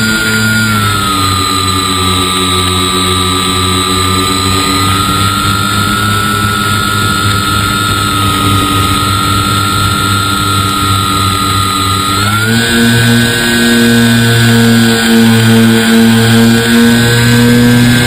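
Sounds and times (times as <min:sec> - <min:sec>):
low hum: 0:00.0 - 0:18.0
model plane motor whine: 0:00.0 - 0:18.0.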